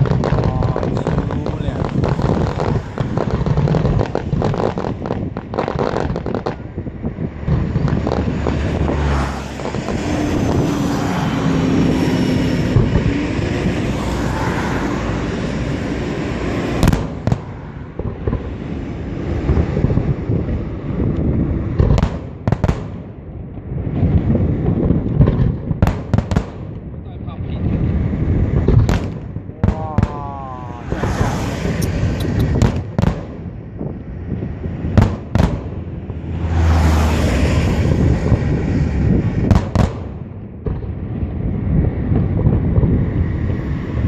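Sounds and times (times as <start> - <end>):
fireworks crackling: 0.0 - 44.0
loud firework bangs: 0.0 - 44.0.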